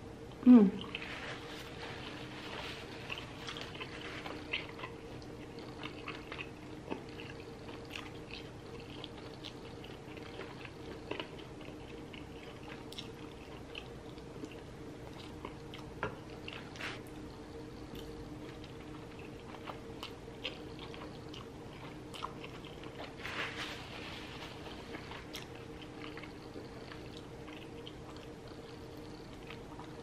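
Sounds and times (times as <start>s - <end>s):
faint steady hum: 0.0s - 30.0s
close-up chewing: 0.2s - 30.0s.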